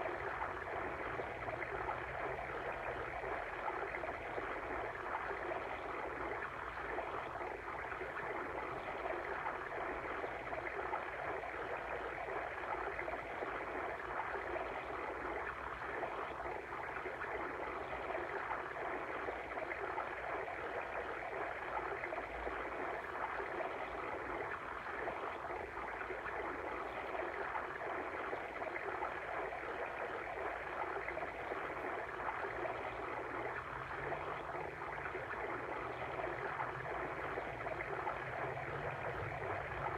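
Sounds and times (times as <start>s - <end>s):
water stream flowing: 0.0s - 39.9s.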